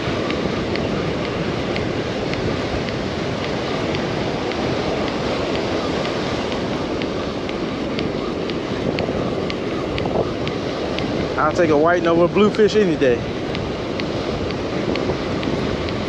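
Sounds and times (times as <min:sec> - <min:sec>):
breaking surf: 0:00.0 - 0:16.0
fishing reel ticking: 0:00.0 - 0:16.0
wind on microphone: 0:00.0 - 0:16.0.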